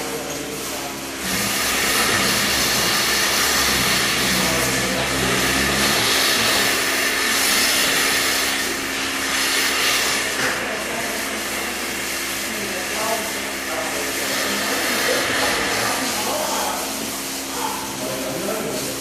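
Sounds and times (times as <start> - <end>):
milking machine air hiss: 0.8 - 19.0.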